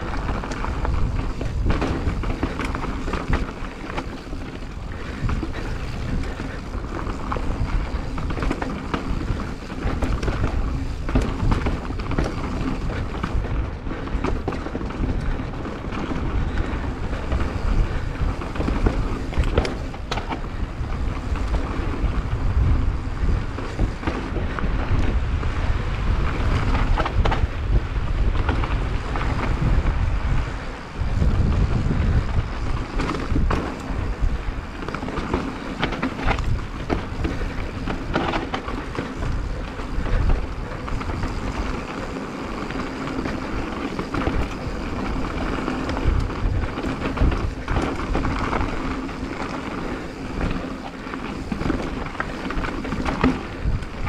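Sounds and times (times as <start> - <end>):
bike knocks and rattles: 0.0 - 54.0
tyres rolling over dirt and stones: 0.0 - 54.0
wind rumbling on microphone: 0.0 - 54.0.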